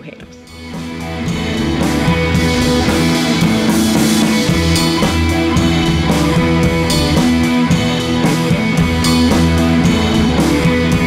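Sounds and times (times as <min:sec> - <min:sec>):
rock music: 0:00.3 - 0:11.0.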